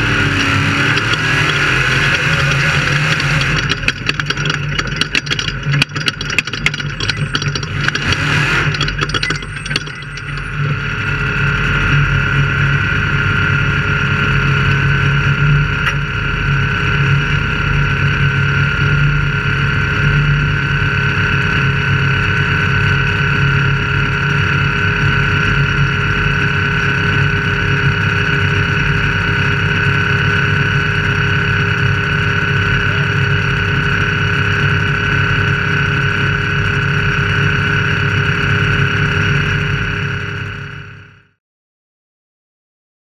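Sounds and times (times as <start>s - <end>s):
engine running steadily: 0.0s - 41.4s.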